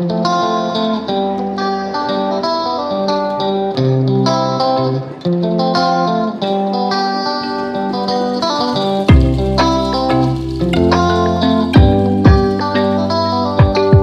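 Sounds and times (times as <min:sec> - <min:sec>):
instrumental guitar music: 0:00.0 - 0:14.0.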